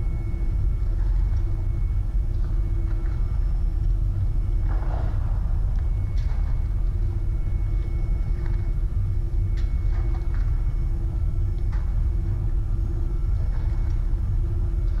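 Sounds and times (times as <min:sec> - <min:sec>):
faint hum: 0:00.0 - 0:15.0
low rumble: 0:00.0 - 0:15.0.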